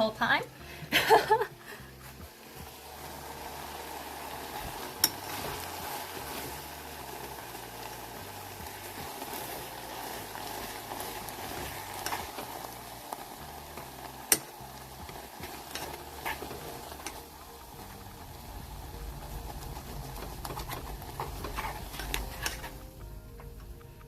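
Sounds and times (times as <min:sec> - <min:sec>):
butter sizzling in a pan: 0:00.0 - 0:24.0.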